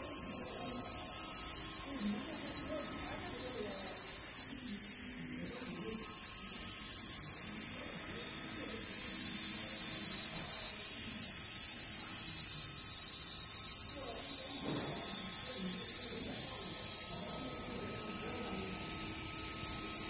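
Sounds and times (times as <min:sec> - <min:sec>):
sewing machine buzzing whir: 0:00.0 - 0:20.0.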